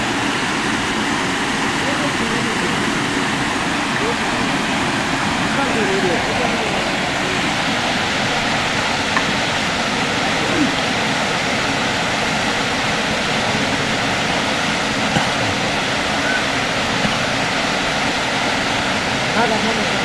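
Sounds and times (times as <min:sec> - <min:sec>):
stream flowing over stones: 0:00.0 - 0:20.0.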